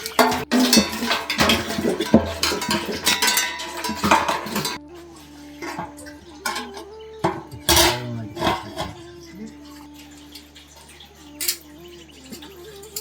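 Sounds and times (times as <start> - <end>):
metal pots and dishes clattering: 0.0 - 13.0.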